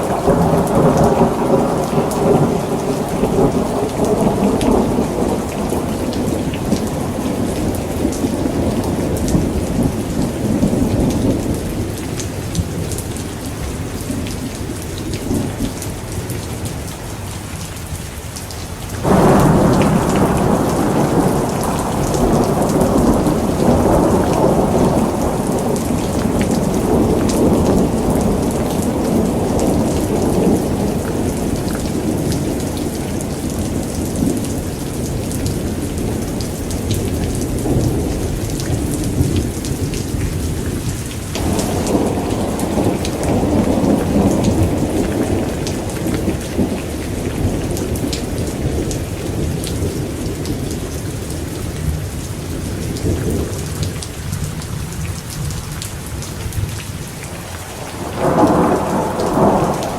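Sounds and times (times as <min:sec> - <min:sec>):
thunder clap and rumble: 0:00.0 - 0:16.7, 0:19.0 - 0:59.9
steady rain: 0:00.0 - 0:59.9.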